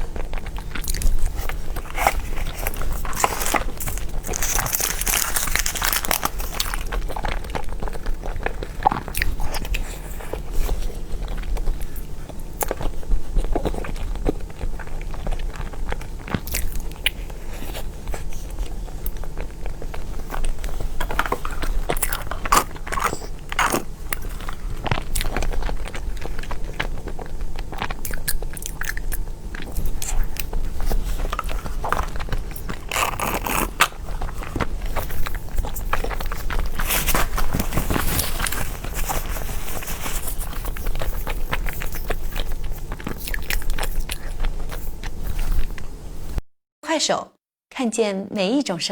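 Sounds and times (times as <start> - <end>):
person biting and chewing cake: 0.0 - 46.0.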